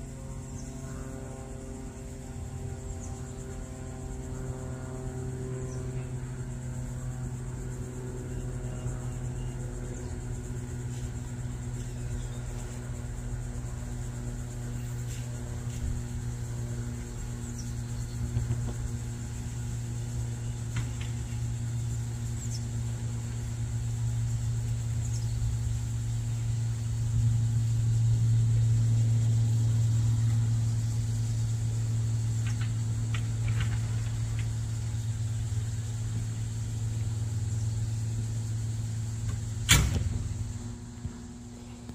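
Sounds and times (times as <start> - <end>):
light aircraft engine drone: 0.0 - 41.9.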